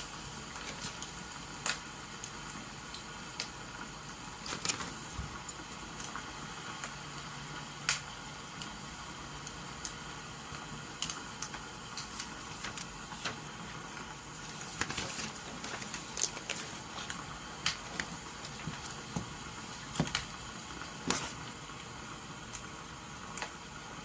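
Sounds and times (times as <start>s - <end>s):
wood fire crackling and popping: 0.4s - 7.0s, 7.8s - 8.7s, 9.4s - 21.8s.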